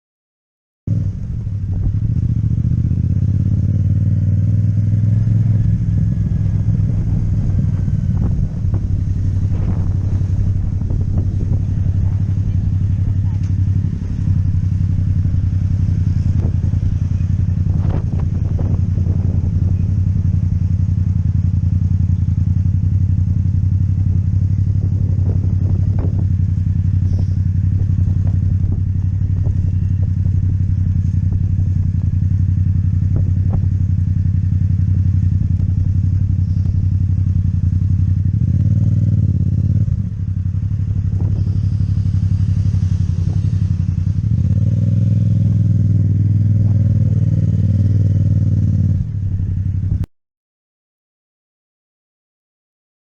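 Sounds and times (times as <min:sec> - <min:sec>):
motorcycle engine running: 0:00.9 - 0:50.1.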